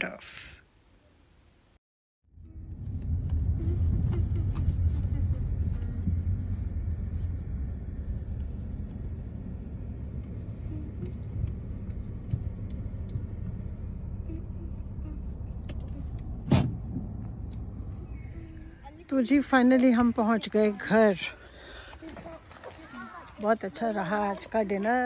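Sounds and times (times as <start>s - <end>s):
car road and engine rumble: 2.3s - 25.0s.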